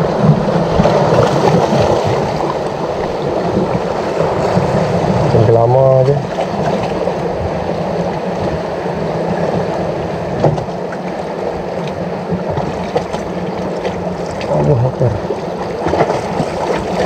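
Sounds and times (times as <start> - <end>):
sea water washing against rocks: 0.0 - 17.0.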